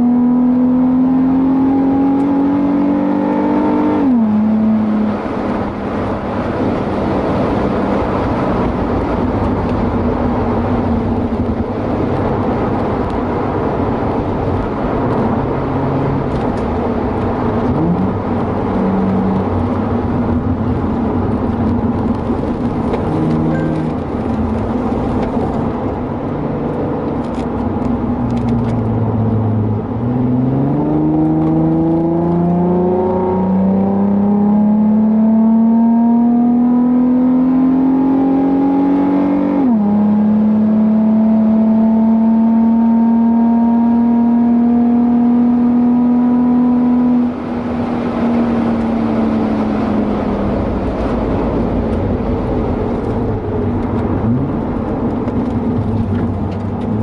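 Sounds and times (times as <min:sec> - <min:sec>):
car engine revving: 0:00.0 - 0:57.0
road noise: 0:00.0 - 0:57.0.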